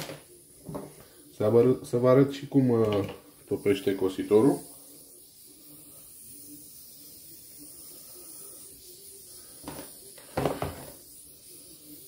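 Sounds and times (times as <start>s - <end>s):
soldering iron hiss: 0.0s - 12.0s
solder melting on hot tip: 0.2s - 12.0s.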